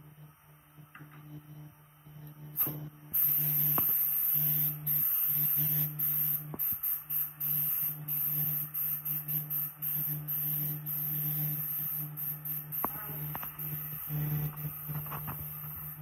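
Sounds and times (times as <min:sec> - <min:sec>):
air compressor humming: 0:02.5 - 0:16.0.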